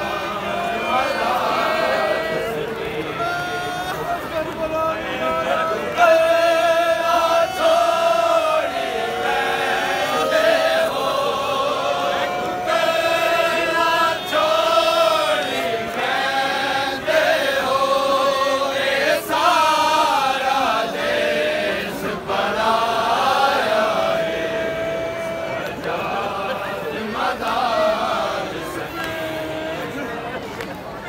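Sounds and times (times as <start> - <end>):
men chanting a lament: 0.0 - 30.3.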